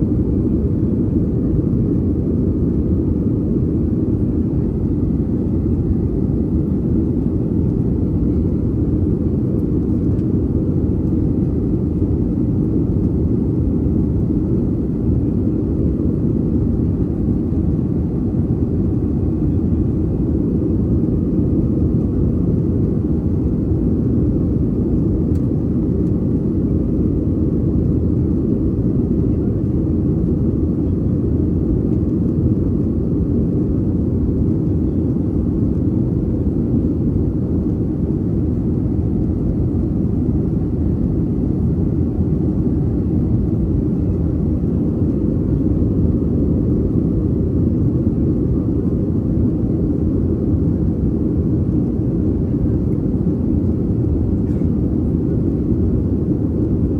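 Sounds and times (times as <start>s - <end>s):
airliner cabin engine noise: 0.0s - 56.9s.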